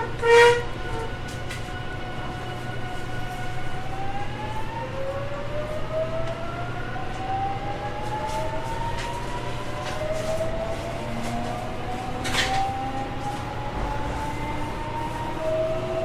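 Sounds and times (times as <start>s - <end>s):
train inverter whining: 0.0s - 16.0s
train rumble: 0.0s - 16.0s.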